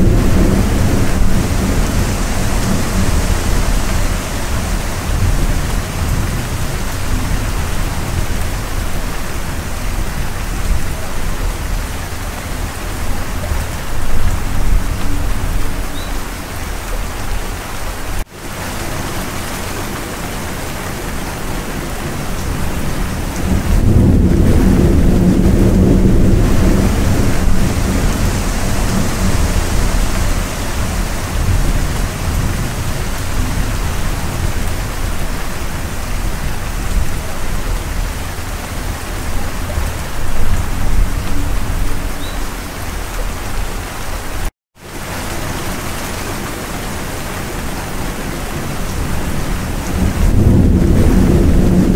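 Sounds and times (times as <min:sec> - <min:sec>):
thunder rumbling: 0:00.0 - 0:43.8, 0:45.3 - 0:51.9
heavy rain: 0:00.0 - 0:51.9.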